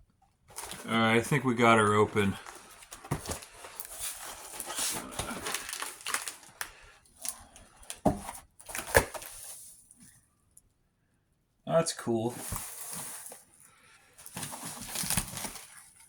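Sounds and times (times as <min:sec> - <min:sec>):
cardboard and packing rustling: 0:00.4 - 0:10.1, 0:12.2 - 0:16.0.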